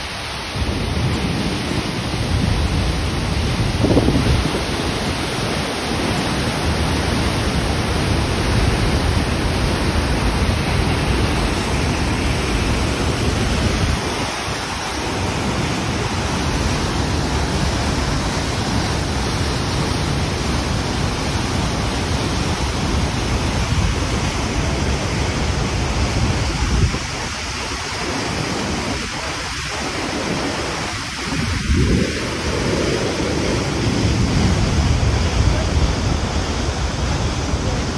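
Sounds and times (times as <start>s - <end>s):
waterfall roaring: 0.0s - 37.9s.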